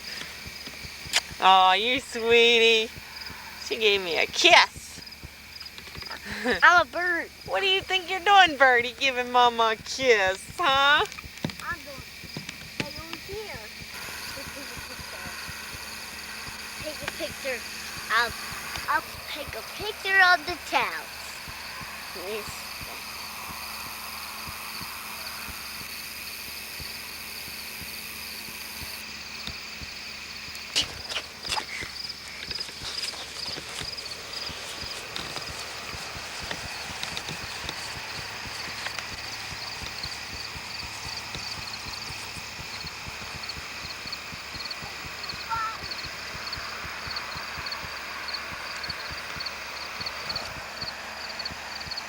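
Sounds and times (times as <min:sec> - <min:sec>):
insects trilling: 0:00.0 - 0:52.0
sharp clicks: 0:00.0 - 0:52.0.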